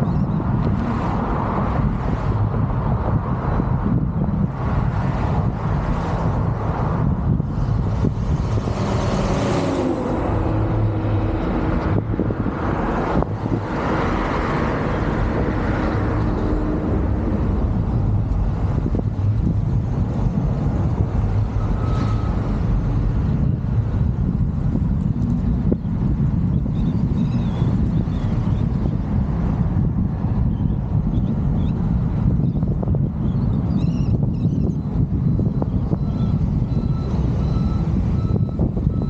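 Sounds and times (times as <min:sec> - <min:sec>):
car road and wind noise: 0:00.0 - 0:39.0.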